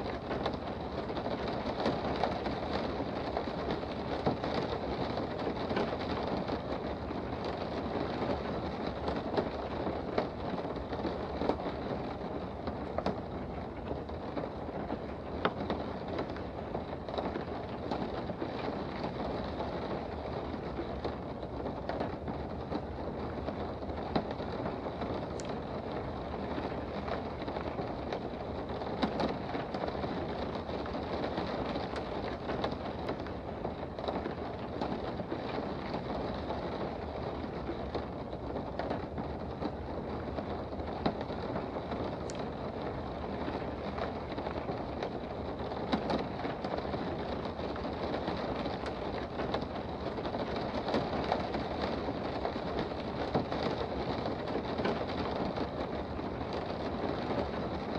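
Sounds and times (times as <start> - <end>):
sharp ticks of raindrops: 0.0 - 57.9
steady rain hiss: 0.0 - 57.9.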